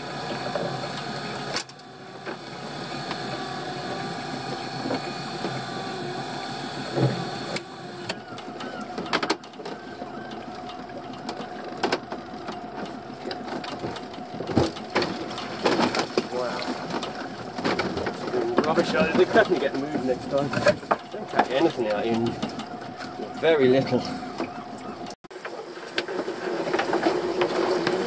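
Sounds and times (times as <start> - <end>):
pot hauler whirring hum: 0.0 - 28.0.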